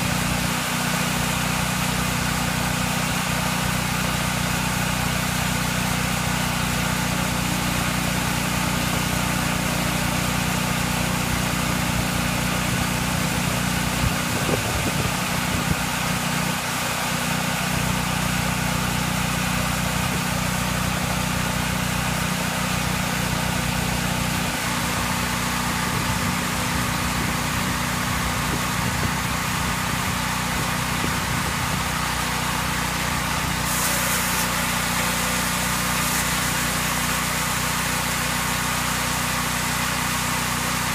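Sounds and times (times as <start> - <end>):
sawmill machinery hum: 0.0 - 40.9.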